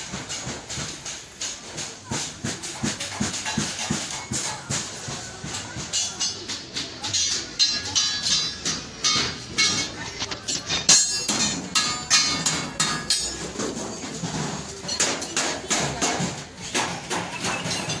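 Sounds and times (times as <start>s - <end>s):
hammers striking sheet metal: 0.0s - 18.0s.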